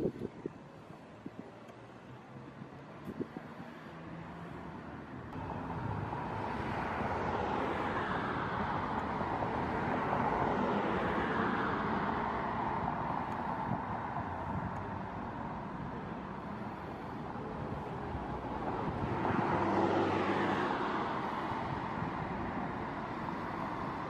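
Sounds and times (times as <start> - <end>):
vehicle passing on road: 0.1 - 24.0.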